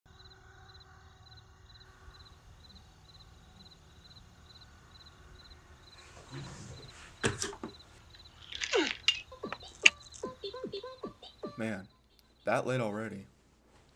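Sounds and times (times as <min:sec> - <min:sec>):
cricket chirping: 0:00.1 - 0:12.6.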